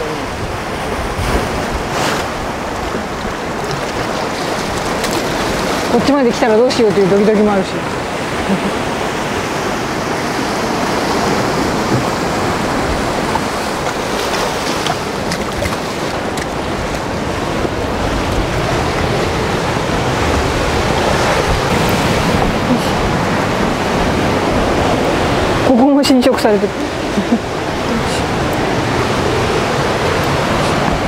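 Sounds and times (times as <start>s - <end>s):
surf breaking on rocks: 0.0s - 31.0s.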